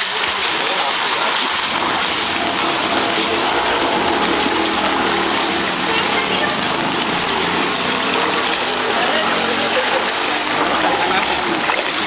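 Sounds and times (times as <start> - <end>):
people wading through floodwater: 0.0 - 12.0
heavy rain hissing: 1.5 - 12.0.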